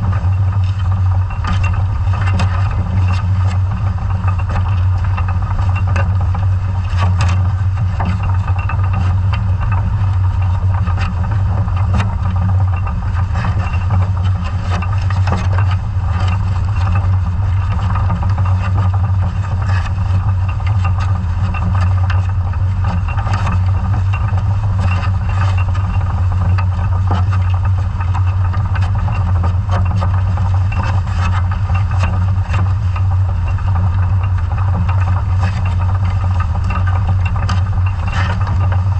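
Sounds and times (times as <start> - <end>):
low underwater engine drone: 0.0 - 38.9.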